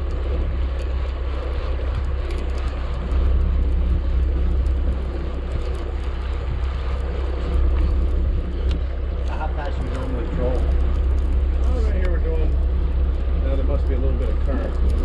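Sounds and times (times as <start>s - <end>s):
boat motor rumble: 0.0s - 15.0s
wind buffeting microphone: 0.0s - 15.0s.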